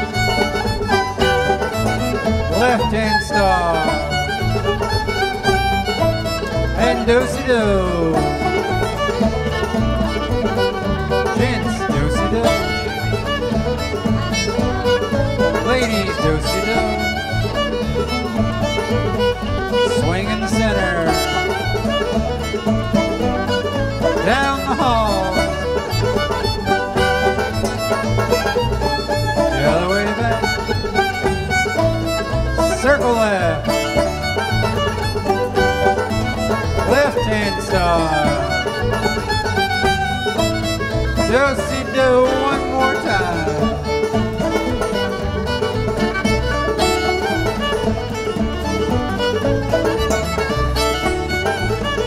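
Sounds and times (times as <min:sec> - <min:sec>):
fiddle melody: 0:00.0 - 0:52.0
low bass notes: 0:00.0 - 0:52.0
string band playing a dance tune: 0:00.0 - 0:52.0.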